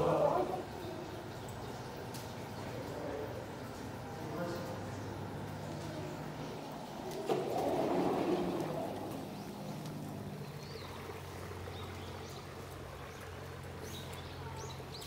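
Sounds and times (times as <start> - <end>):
low mechanical hum: 0.0 - 15.0
noisy rustle: 1.9 - 15.0.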